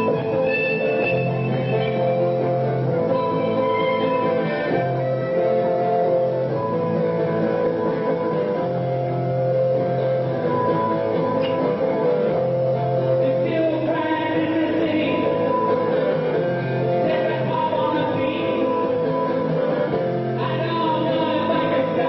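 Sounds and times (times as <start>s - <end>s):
acoustic guitars: 0.0s - 22.0s.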